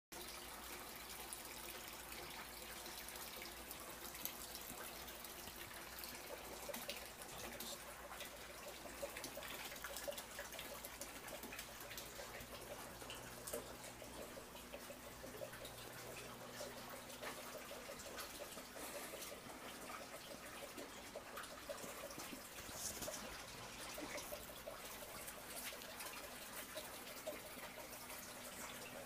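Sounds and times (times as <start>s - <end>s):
water trickling and dripping: 0.2s - 29.0s.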